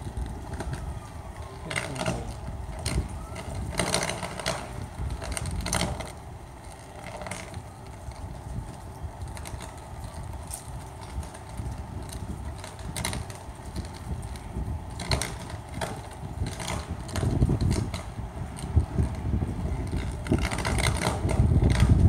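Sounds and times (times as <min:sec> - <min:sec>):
electrical arcing crackles and pops: 0:00.0 - 0:22.0.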